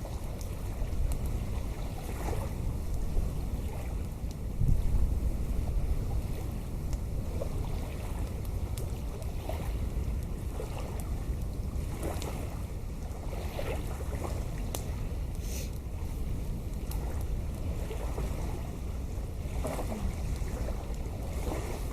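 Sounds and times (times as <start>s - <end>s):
campfire crackles: 0.0s - 21.9s
wind buffeting microphone: 0.0s - 21.9s.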